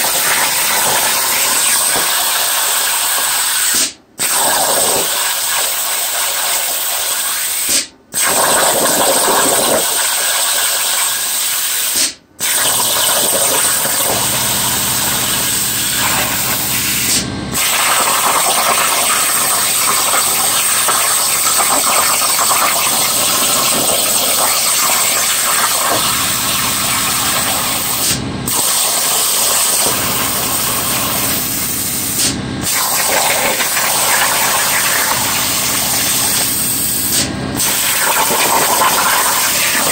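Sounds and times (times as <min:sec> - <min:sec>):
plasma cutting torch hissing: 0:00.0 - 0:39.9.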